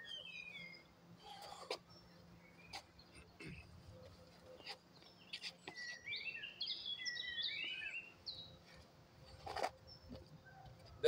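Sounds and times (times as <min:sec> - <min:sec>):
faint outdoor background noise: 0:00.0 - 0:11.0
songbird singing: 0:00.0 - 0:11.0.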